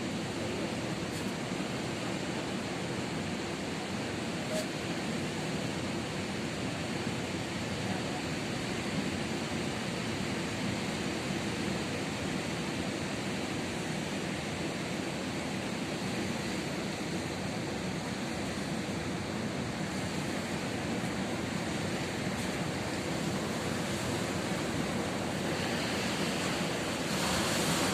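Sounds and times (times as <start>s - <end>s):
ocean waves breaking: 0.0s - 27.9s.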